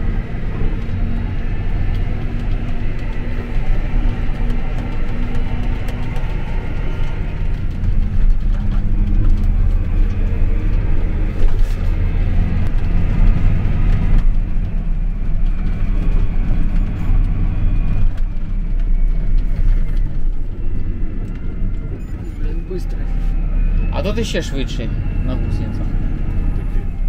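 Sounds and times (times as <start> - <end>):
field rumble: 0.0 - 27.0
tractor diesel engine droning: 0.0 - 27.0.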